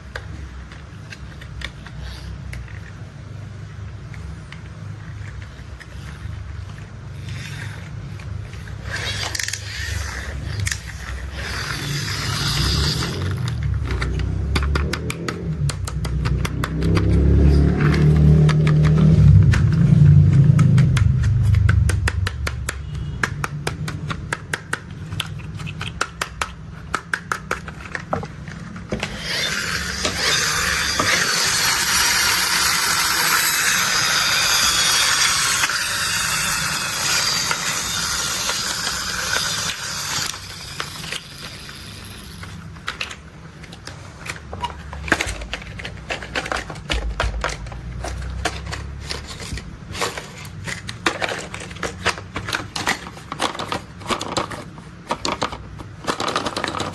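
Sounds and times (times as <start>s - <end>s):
plastic toy vehicles clicking: 0.0s - 56.9s.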